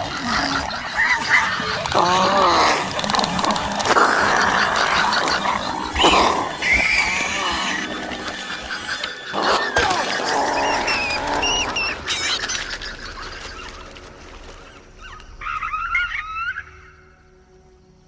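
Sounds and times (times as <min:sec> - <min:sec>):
small dinosaurs chirping: 0:00.0 - 0:17.1.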